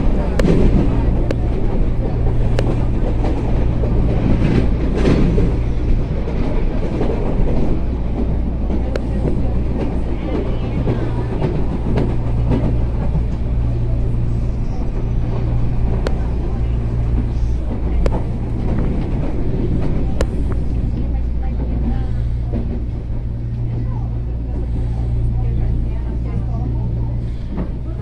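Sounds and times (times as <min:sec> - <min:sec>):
train running gear rumble: 0:00.0 - 0:28.0
wheels clicking on rail joints: 0:00.0 - 0:28.0.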